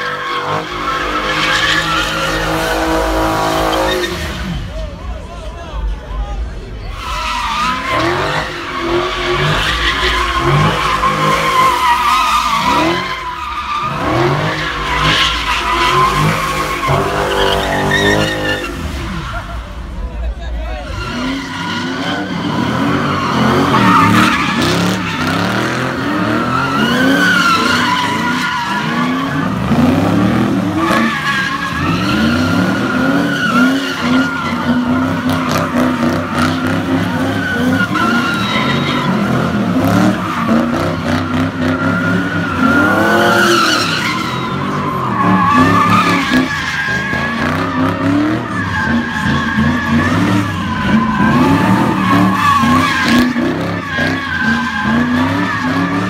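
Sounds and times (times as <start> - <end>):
tyres squealing: 0.0 - 4.4, 6.8 - 19.6, 20.8 - 56.0
car engines revving: 0.0 - 56.0.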